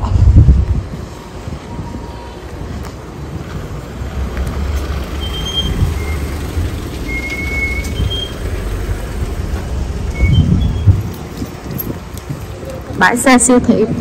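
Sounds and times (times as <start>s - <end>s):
wind on microphone: 0.0s - 4.6s, 5.4s - 14.0s
low rumble of vehicles: 0.0s - 14.0s.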